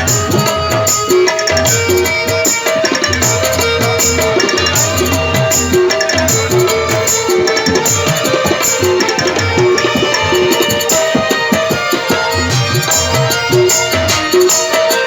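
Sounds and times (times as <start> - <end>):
sustained melody line: 0.0 - 15.0
tabla rhythm: 0.0 - 15.0.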